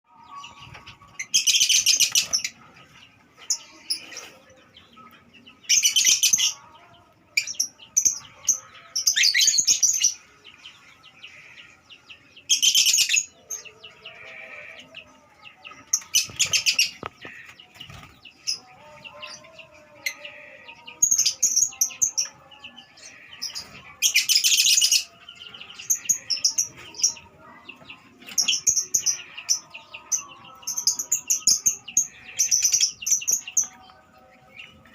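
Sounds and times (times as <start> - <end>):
lovebirds shrill chattering: 0.3 - 2.6, 7.4 - 11.8, 12.4 - 34.7.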